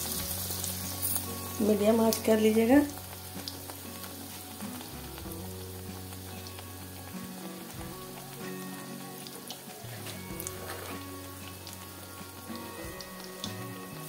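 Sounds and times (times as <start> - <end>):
bread deep-frying in oil: 0.0 - 14.0
oil crackles: 0.0 - 14.0.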